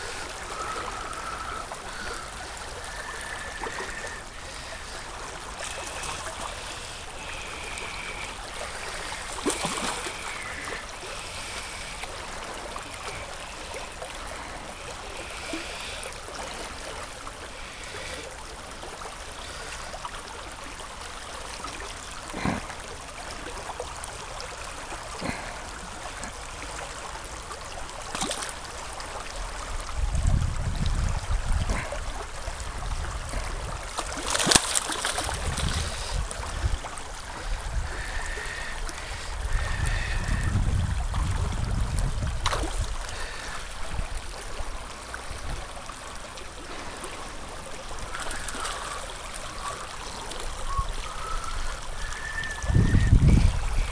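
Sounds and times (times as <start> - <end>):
stream trickling over rock: 0.0 - 53.9.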